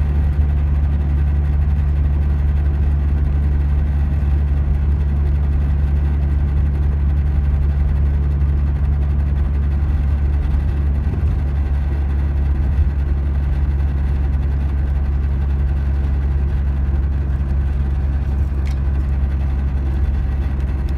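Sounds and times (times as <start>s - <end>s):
car engine drone from inside: 0.0s - 20.9s.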